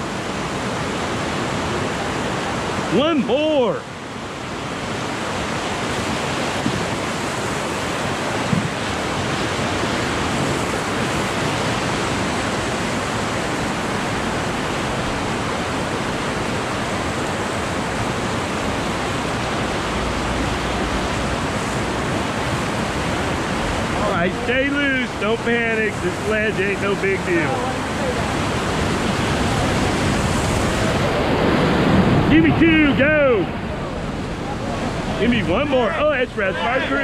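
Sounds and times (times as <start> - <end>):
whitewater rapids rushing: 0.0 - 37.0.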